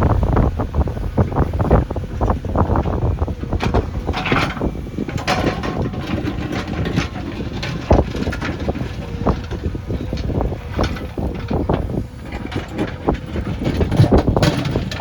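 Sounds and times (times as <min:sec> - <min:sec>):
diesel engine running under load: 0:00.0 - 0:15.0
machine knocks and clanks: 0:02.2 - 0:15.0.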